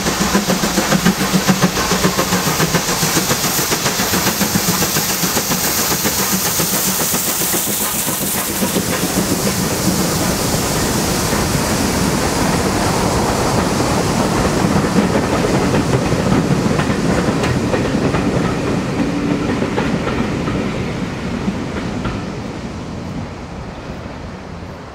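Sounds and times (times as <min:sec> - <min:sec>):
steam train hissing: 0:00.0 - 0:24.9
train wheels rumbling on rails: 0:00.0 - 0:24.9.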